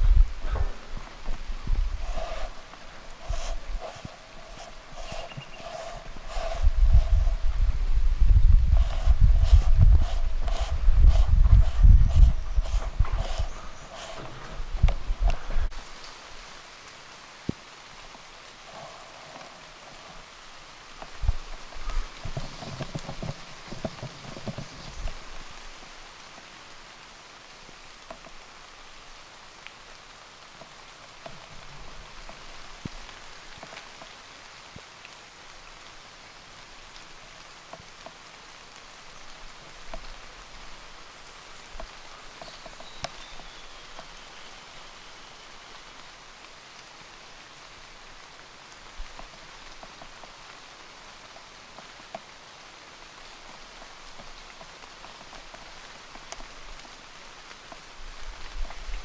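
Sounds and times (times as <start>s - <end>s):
light rain on foliage: 0.0s - 59.0s.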